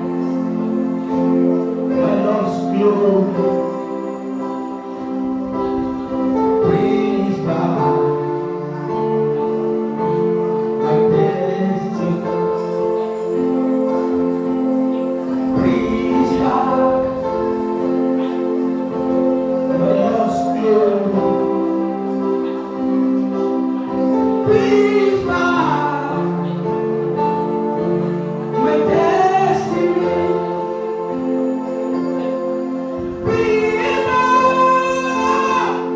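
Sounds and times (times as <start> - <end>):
sustained held chords: 0.0 - 35.9.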